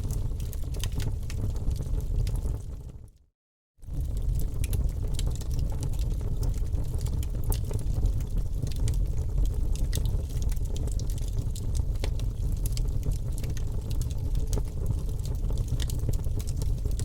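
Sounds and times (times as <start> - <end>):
flames rushing: 0.0 - 3.1, 3.9 - 17.0
fire crackling and popping: 0.0 - 3.2, 3.8 - 17.0.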